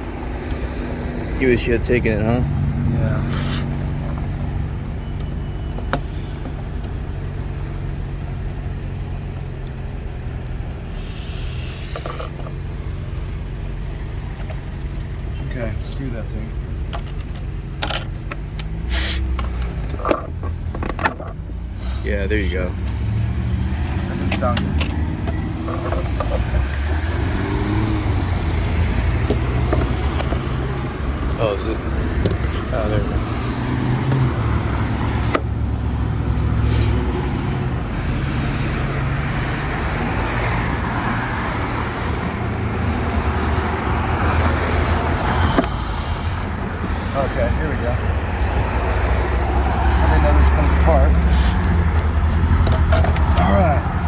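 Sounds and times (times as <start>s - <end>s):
engine running low rumble: 0.0s - 54.0s.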